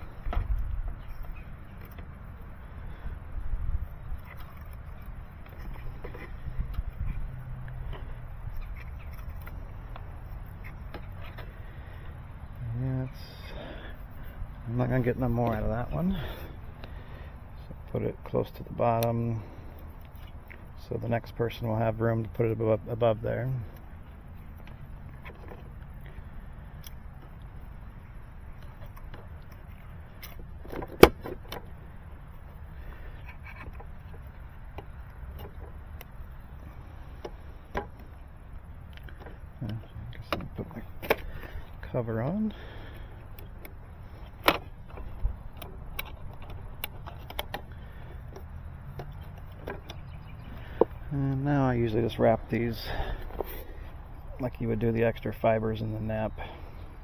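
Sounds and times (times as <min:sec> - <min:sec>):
cable handling clicks and scratching: 0:00.0 - 0:17.0, 0:17.6 - 0:57.0
steady low rumble: 0:00.0 - 0:57.0.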